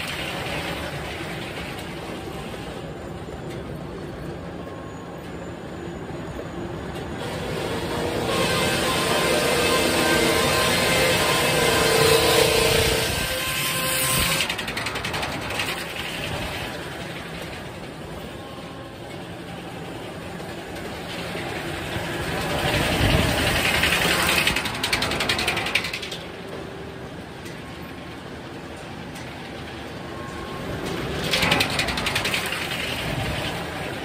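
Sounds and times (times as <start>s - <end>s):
sawmill machinery running: 0.0s - 34.0s.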